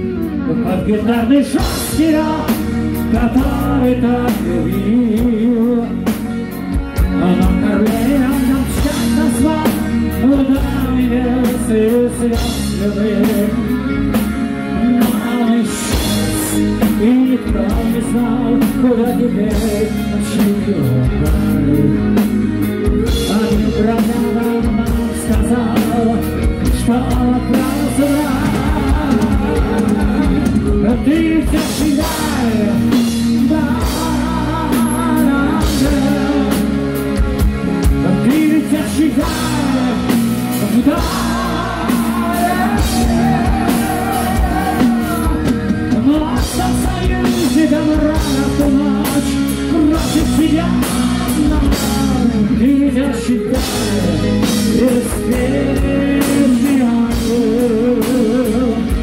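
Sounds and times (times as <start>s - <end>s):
heavy metal band playing: 0.0s - 59.0s
man singing: 0.0s - 59.0s.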